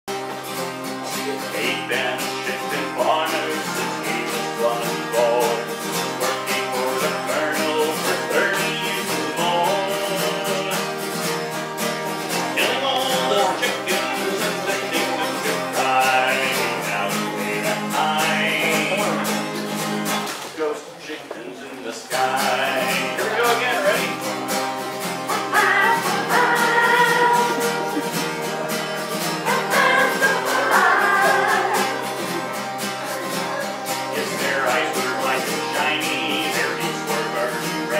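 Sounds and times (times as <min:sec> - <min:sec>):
acoustic guitar strumming: 0:00.1 - 0:20.5, 0:22.0 - 0:37.9.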